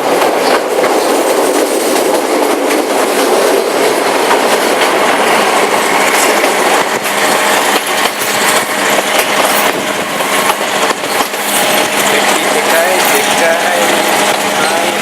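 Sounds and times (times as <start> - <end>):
train coach rattle and rumble: 0.0 - 15.0
wheels clicking over rail joints: 0.0 - 15.0.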